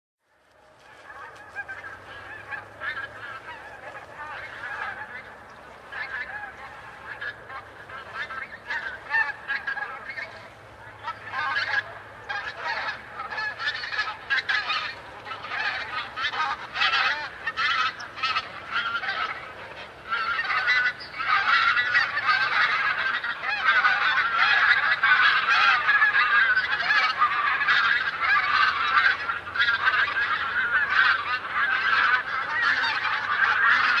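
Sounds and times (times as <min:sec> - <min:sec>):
geese honking: 0:00.6 - 0:34.0.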